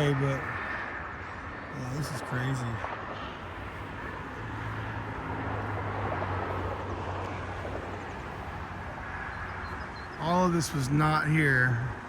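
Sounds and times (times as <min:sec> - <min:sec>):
engine hum: 0:00.0 - 0:12.0.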